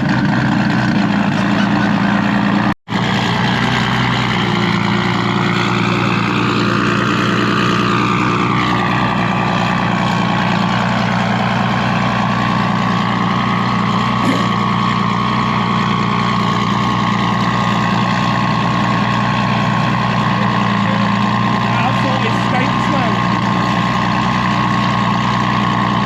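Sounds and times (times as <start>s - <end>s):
car engine on dyno: 0.0s - 26.0s.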